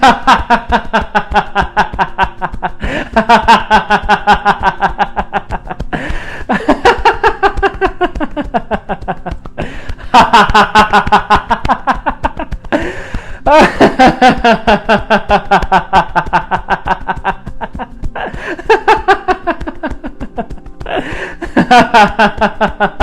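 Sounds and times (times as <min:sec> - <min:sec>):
hand tapping chest: 0:00.0 - 0:23.0
man laughing loudly: 0:00.0 - 0:23.0.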